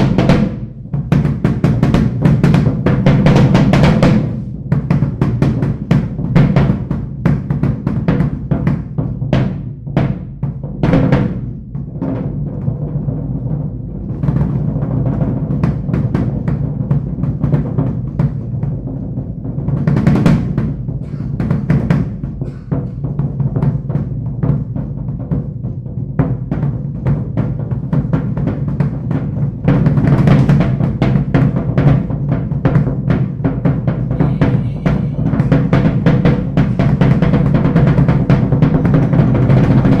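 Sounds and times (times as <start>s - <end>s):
drum kit rolls: 0.0s - 40.0s.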